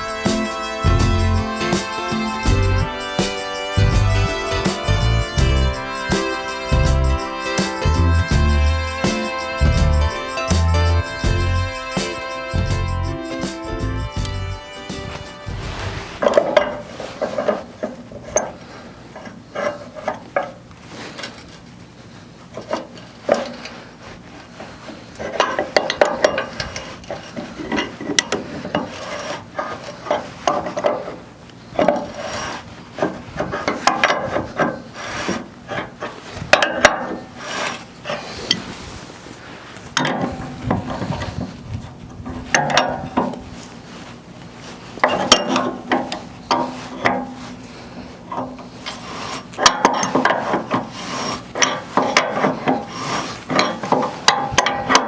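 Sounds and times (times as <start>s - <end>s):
hand tools scraping and clinking metal: 0.0s - 55.0s.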